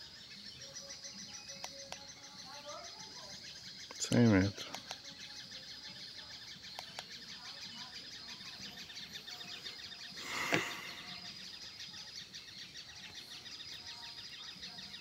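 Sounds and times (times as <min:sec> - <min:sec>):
birds calling: 0:00.0 - 0:15.0
insects chirping: 0:00.0 - 0:15.0.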